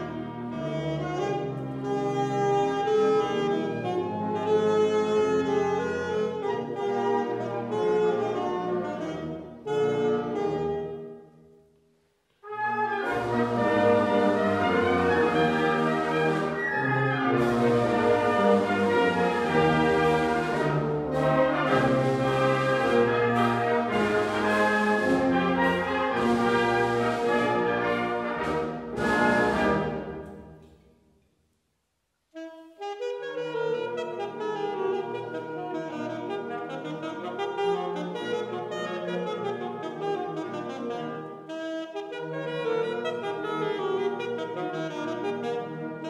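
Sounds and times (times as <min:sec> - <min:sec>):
wind band playing: 0:00.0 - 0:11.4, 0:12.4 - 0:30.7, 0:32.4 - 0:46.0
alto saxophone solo: 0:00.0 - 0:11.6, 0:12.4 - 0:30.6, 0:32.3 - 0:46.0.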